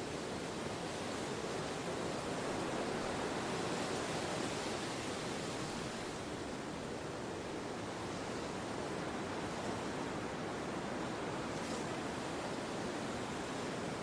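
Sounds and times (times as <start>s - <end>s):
steady wind: 0.0s - 14.0s.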